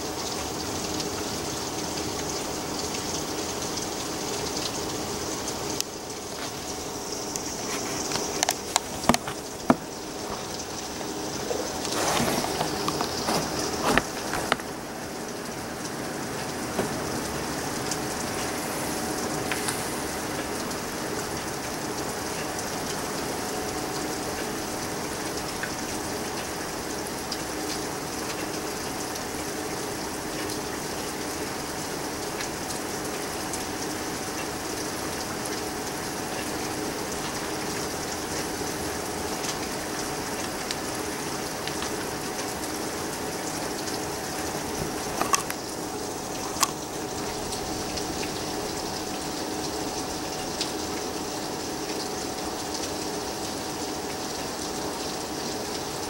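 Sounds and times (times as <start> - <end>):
faint steady hum: 0.0 - 56.0
heavy rain falling: 0.0 - 56.0.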